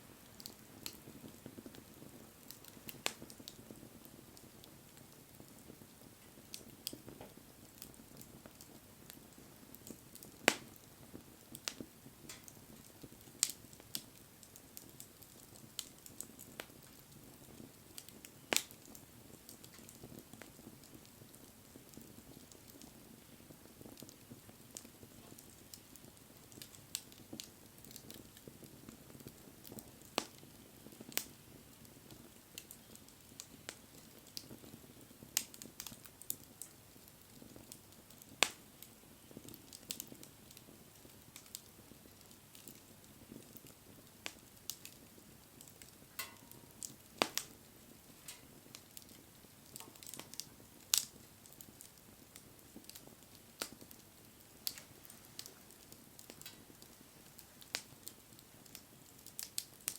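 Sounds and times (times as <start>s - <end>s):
bonfire crackling and popping: 0.0s - 59.9s.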